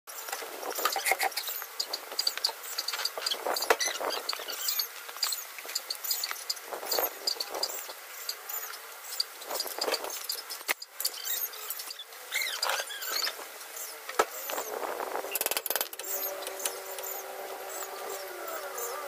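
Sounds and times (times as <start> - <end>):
steady hum: 0.1 - 19.0
faint bird chirps: 0.8 - 14.7, 15.3 - 19.0.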